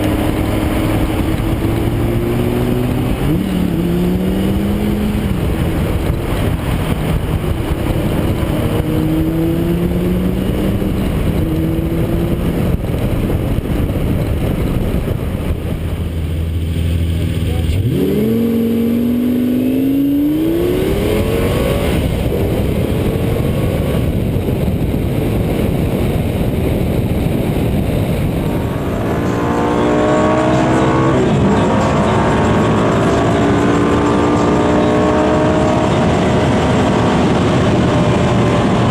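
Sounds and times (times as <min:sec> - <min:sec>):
car engine accelerating: 0:00.0 - 0:38.9
road and wind noise: 0:00.0 - 0:38.9.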